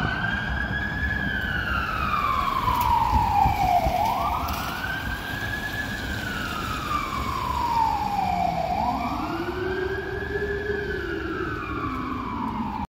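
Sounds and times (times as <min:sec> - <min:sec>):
fire engine siren wailing: 0:00.0 - 0:12.9
second lower siren wail: 0:00.0 - 0:12.9.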